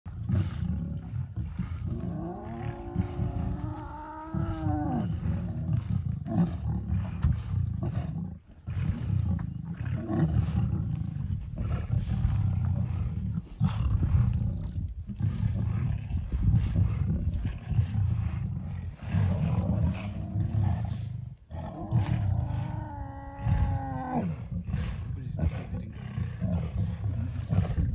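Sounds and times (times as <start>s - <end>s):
lions growling and snarling: 0.1s - 27.9s.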